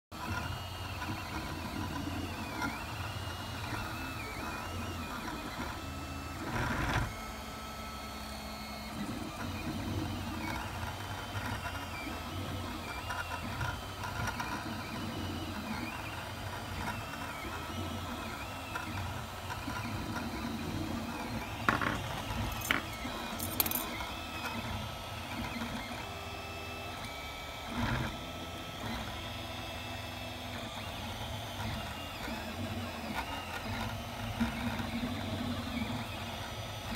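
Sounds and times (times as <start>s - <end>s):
printer stepper motors whirring: 0.1s - 36.9s.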